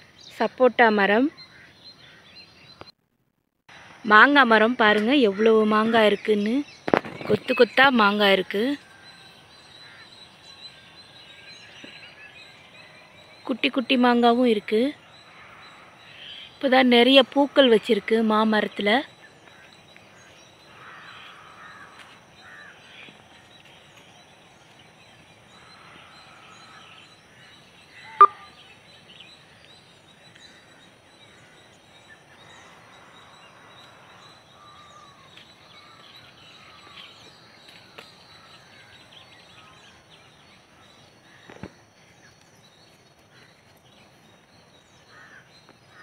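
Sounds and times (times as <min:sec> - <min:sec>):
distant bird calls: 0:00.0 - 0:03.0, 0:03.7 - 0:46.0.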